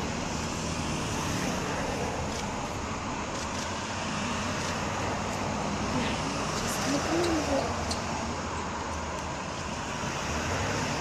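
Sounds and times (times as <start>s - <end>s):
cars engine and tyre noise: 0.0s - 11.0s.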